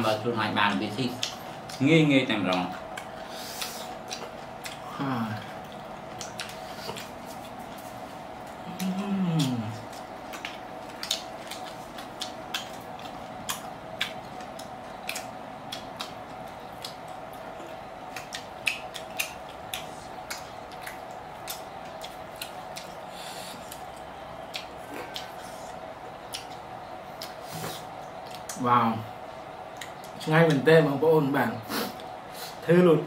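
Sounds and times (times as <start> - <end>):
steady hum: 0.0 - 33.0
chewing and mouth smacks: 1.1 - 1.8, 2.4 - 28.6, 29.7 - 30.6.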